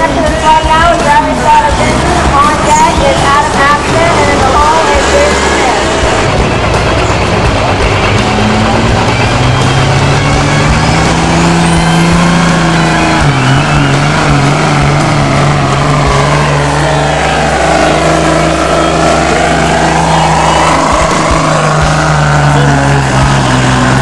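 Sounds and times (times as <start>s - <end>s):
high engine whine: 0.0s - 24.0s
pickup engine at full throttle: 0.0s - 24.0s.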